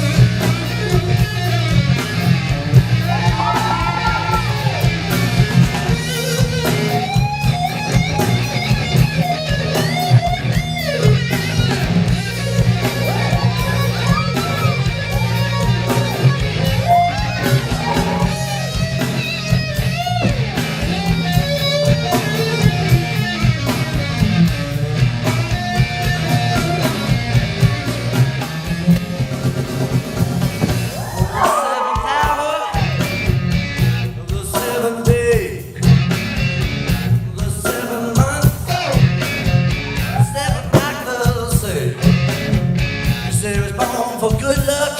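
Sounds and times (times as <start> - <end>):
electric guitar lead with bent notes: 0.0 - 31.4, 32.0 - 44.9
rock music: 0.0 - 44.9.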